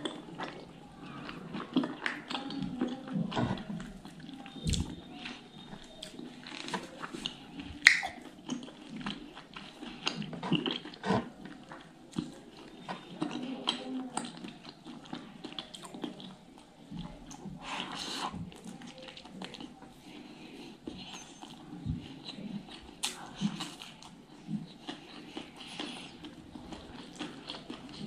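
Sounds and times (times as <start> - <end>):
wet chewing and lip smacks: 0.0 - 28.0.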